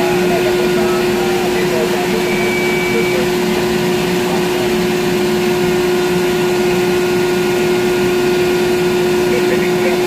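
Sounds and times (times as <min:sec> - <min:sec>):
crane power unit humming: 0:00.0 - 0:10.0.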